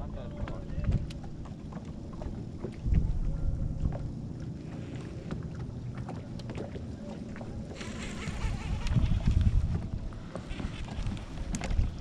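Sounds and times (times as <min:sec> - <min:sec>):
water moving around boat: 0:00.0 - 0:12.0
wind buffeting microphone: 0:00.0 - 0:12.0.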